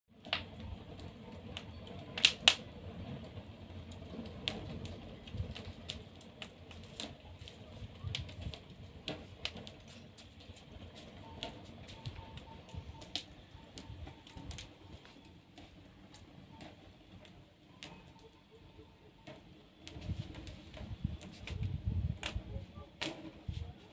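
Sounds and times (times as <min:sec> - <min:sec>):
low rumble of fire: 0:00.1 - 0:23.9
wood fire crackling: 0:00.1 - 0:23.9
fire pops and snaps: 0:00.2 - 0:18.4, 0:19.2 - 0:23.9.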